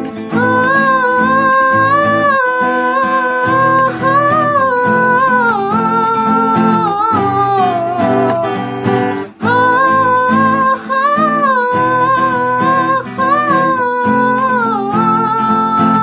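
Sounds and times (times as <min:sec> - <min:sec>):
acoustic guitar strumming: 0:00.0 - 0:16.0
woman singing: 0:00.0 - 0:16.0.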